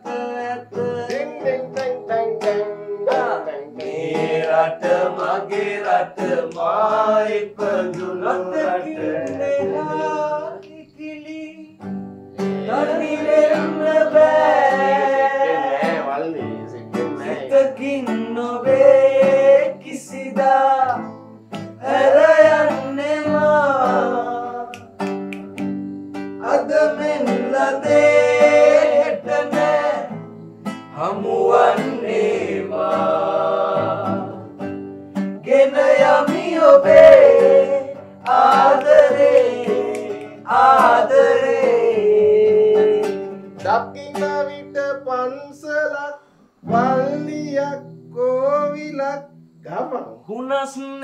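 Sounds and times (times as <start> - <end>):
instrumental accompaniment: 0.0 - 11.0, 11.7 - 45.0
men singing: 0.0 - 11.8, 12.4 - 25.1, 26.4 - 34.8, 35.4 - 49.2.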